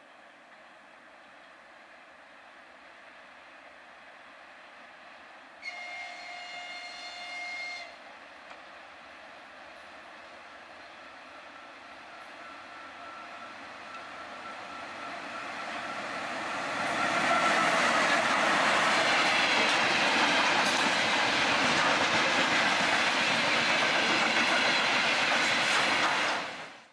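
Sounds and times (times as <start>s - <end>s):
freight train passing: 0.0s - 26.9s
wheels rushing on rails: 2.8s - 26.9s.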